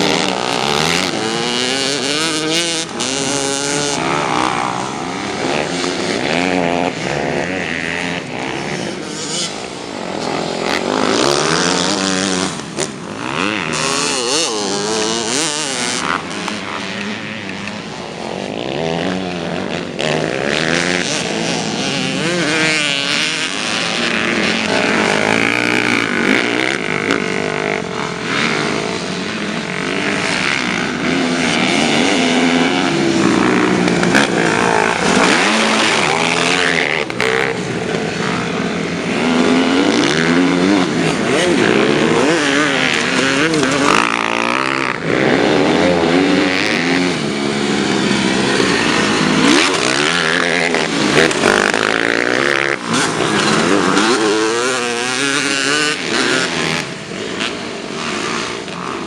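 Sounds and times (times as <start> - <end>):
motocross bikes revving: 0.0 - 59.0.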